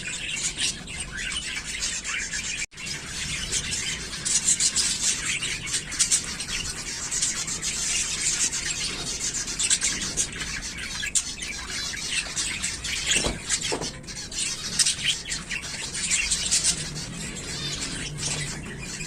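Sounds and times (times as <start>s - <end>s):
finches chirping: 0.0s - 19.0s.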